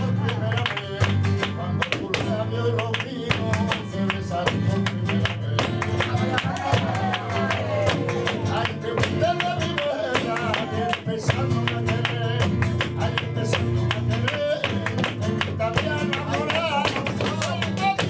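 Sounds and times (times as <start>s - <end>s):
flamenco guitar strumming: 0.0s - 18.0s
man singing: 0.0s - 18.0s.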